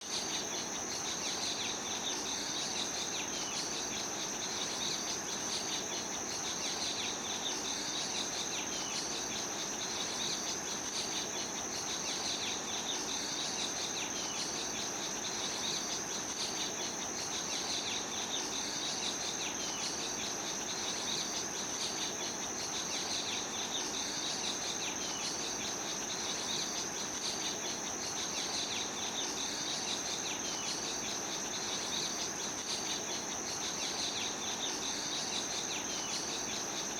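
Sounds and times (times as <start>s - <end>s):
rhythmic insect chirping: 0.1s - 36.9s.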